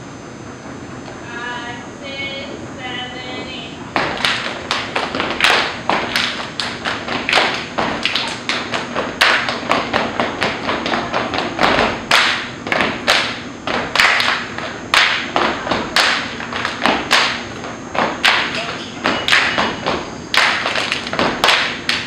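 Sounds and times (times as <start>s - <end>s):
dancers stomping on hard floor: 3.9s - 22.0s
clapping and body slapping: 4.0s - 22.0s.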